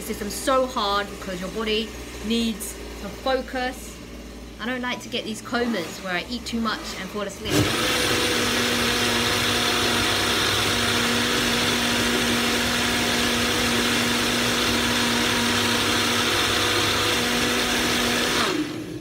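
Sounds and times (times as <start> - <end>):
blender motor winding down: 0.0 - 19.0
blender running: 0.0 - 19.0.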